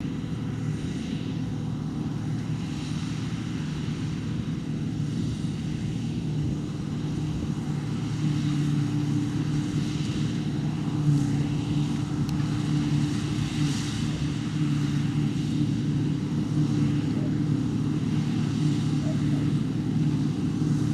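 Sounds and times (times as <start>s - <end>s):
combine harvester humming: 0.0s - 20.9s.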